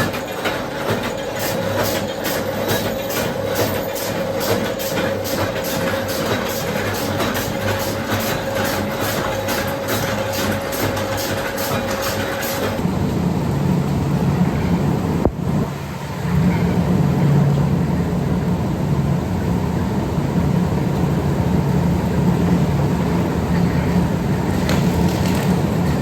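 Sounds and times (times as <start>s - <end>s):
factory machinery humming: 0.0s - 26.0s.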